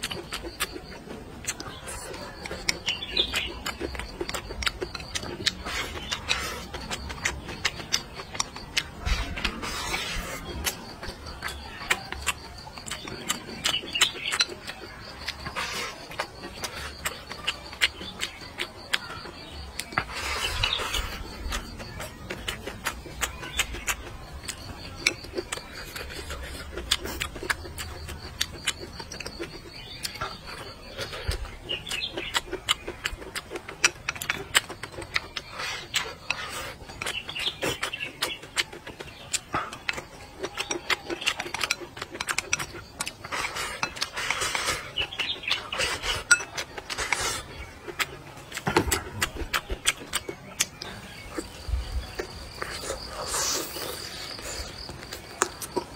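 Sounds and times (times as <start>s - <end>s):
faint birds chirping: 0.0s - 55.9s
person chewing and smacking lips: 0.0s - 55.9s.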